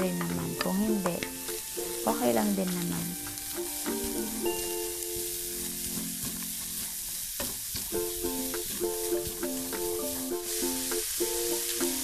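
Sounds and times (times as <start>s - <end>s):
soft background music: 0.0s - 6.6s, 8.0s - 12.0s
food sizzling in a frying pan: 0.0s - 12.0s.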